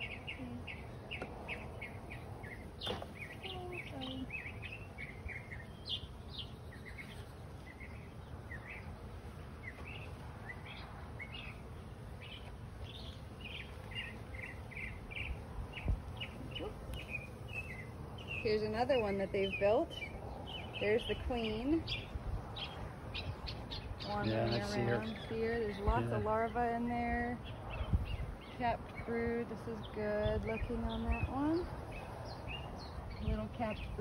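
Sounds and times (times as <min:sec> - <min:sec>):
mockingbird singing: 0:00.0 - 0:34.0.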